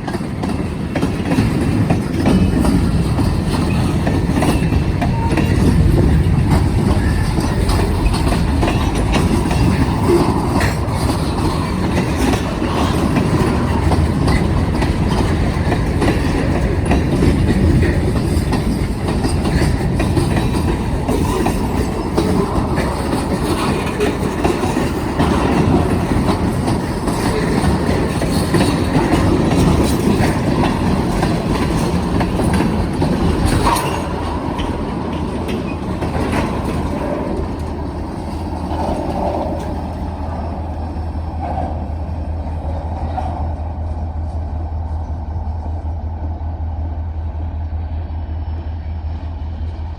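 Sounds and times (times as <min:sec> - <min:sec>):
wheels clicking over rail joints: 0:00.0 - 0:44.5
freight train rumbling past: 0:00.0 - 0:49.9.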